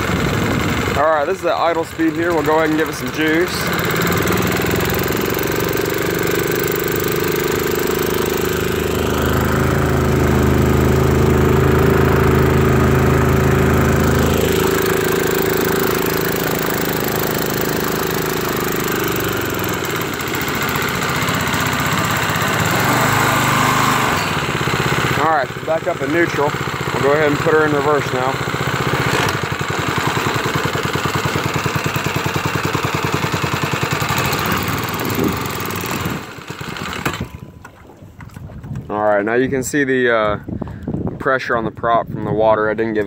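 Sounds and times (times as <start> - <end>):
water wash: 0.0 - 39.3
boat engine running: 0.0 - 43.0.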